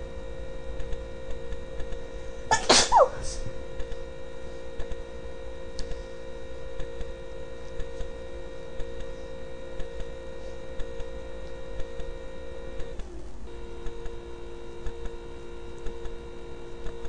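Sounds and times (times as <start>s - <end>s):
steady multi-tone hum: 0.0s - 17.0s.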